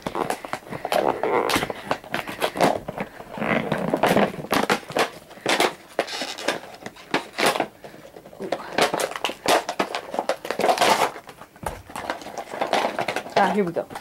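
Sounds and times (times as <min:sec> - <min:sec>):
box rustling and crackling: 0:00.0 - 0:14.0.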